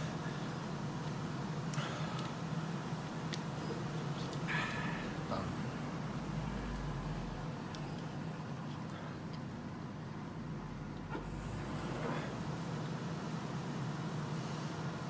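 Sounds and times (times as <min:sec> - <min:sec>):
low background hum and rumble: 0:00.0 - 0:15.0.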